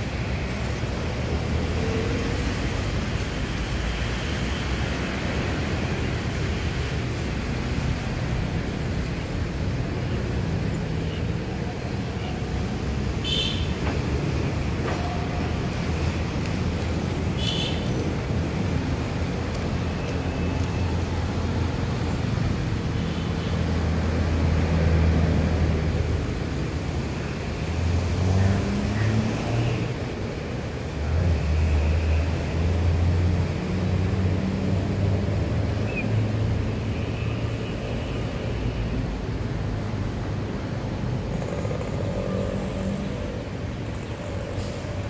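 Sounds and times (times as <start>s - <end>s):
passing vehicle engines: 0.0s - 45.0s
steady roadside hum: 0.0s - 45.0s.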